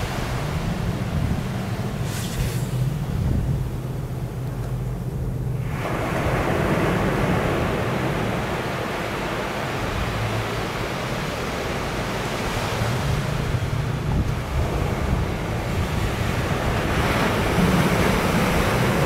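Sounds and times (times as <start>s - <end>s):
boat engines humming: 0.0s - 19.0s
surf washing in: 0.0s - 19.0s.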